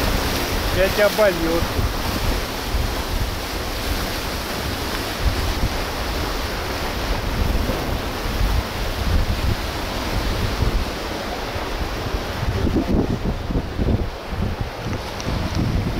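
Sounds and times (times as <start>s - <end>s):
surf washing over rocks: 0.0s - 15.9s
wind buffeting microphone: 0.0s - 15.9s.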